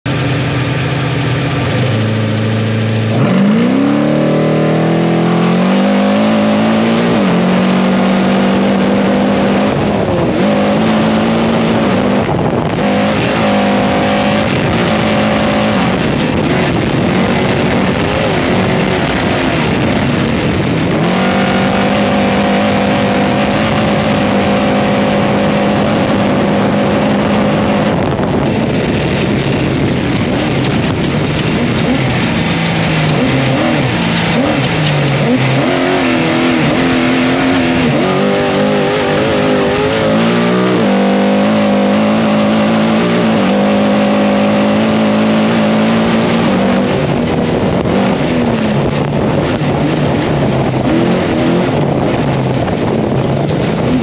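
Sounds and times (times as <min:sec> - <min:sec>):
race engine revving: 0:00.0 - 0:54.0
wind and road noise: 0:00.0 - 0:54.0.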